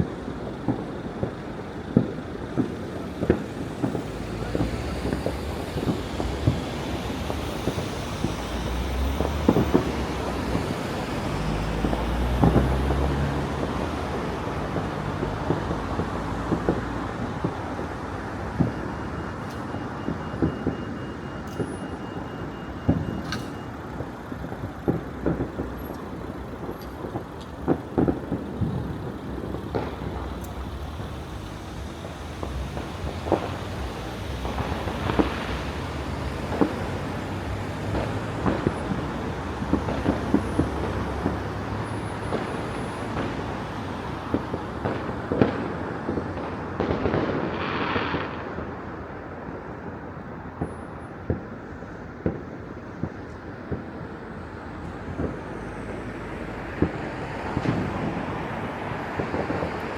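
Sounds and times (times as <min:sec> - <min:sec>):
distant fireworks bangs: 0:00.0 - 0:59.9
low traffic rumble: 0:00.0 - 0:59.9.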